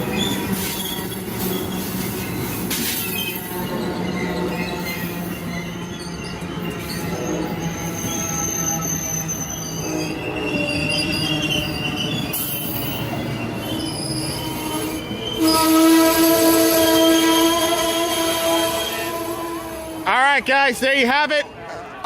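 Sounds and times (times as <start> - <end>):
train wheels squealing on rails: 0.0 - 20.1.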